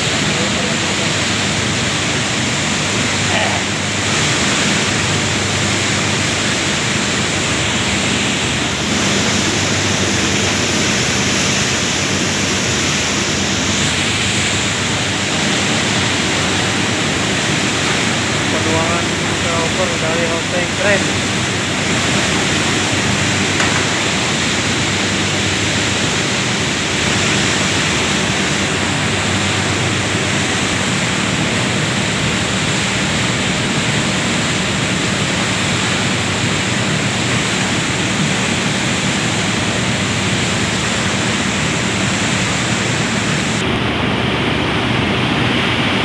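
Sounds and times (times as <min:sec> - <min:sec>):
processing machinery running: 0:00.0 - 0:46.0.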